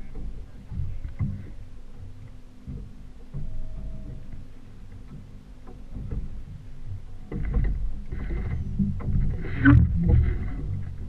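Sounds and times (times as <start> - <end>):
outboard motor droning: 0.0 - 11.0
water against hull: 0.0 - 11.0.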